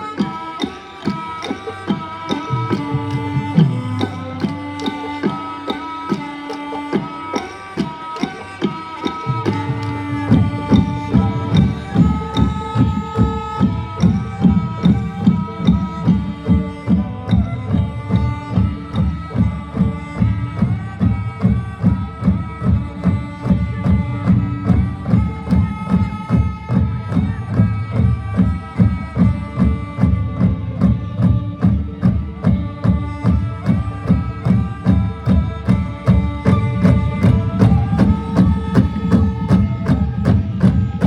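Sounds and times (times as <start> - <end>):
drums in steady rhythm: 0.0 - 41.0.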